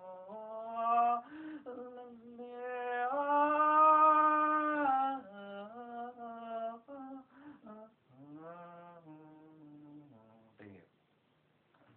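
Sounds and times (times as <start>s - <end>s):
woman singing unaccompanied: 0.0s - 10.5s.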